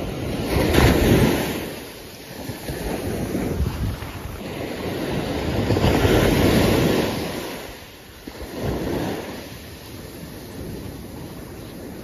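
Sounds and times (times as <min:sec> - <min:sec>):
ocean waves crashing on beach: 0:00.0 - 0:12.0.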